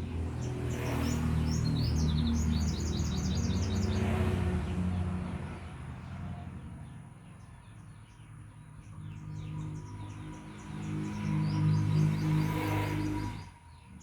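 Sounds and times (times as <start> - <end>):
birds chirping: 0.0 - 4.4, 6.8 - 14.0.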